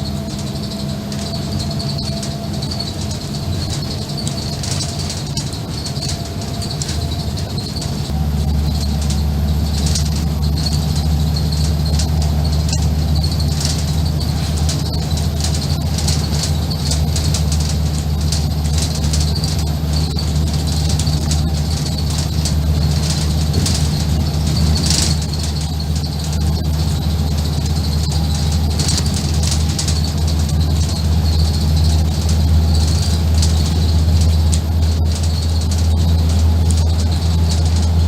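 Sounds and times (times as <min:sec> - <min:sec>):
bus diesel engine running: 0:00.0 - 0:38.0
interior rattles and squeaks: 0:00.0 - 0:38.0.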